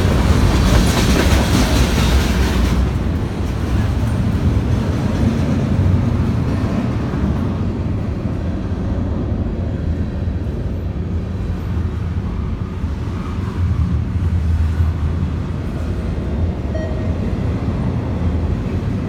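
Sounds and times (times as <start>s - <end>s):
freight train cars rolling past: 0.0s - 19.0s.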